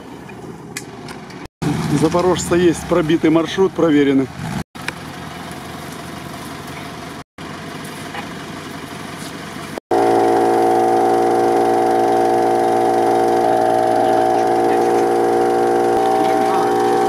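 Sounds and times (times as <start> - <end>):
off-road vehicle engine running: 0.3 - 17.0.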